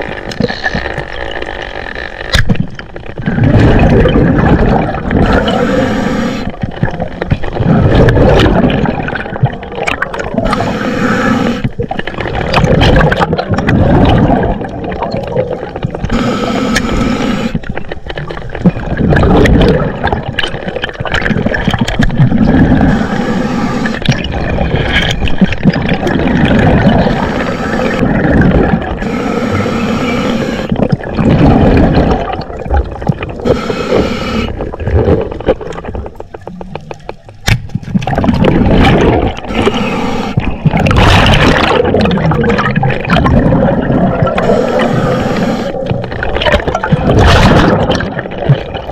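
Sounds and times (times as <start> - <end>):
low rush of water underwater: 3.0 - 48.9
hissing bubbling bursts: 3.2 - 17.7, 18.8 - 35.8, 37.8 - 48.9.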